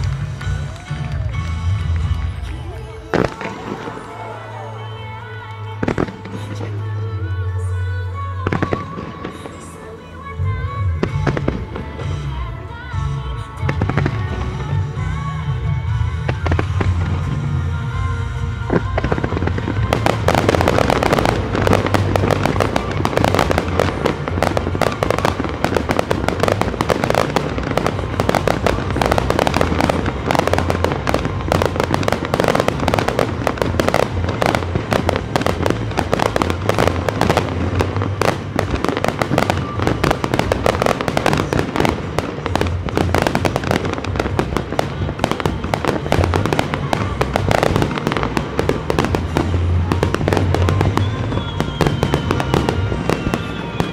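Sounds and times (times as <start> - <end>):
fireworks bursting: 0.0 - 53.9
music: 0.0 - 53.9.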